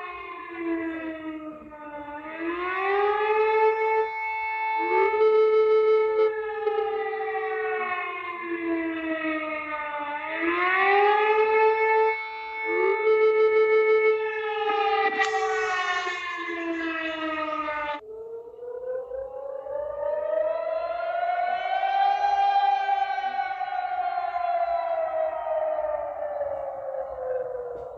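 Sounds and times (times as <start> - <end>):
alarm siren wailing: 0.0 - 27.9.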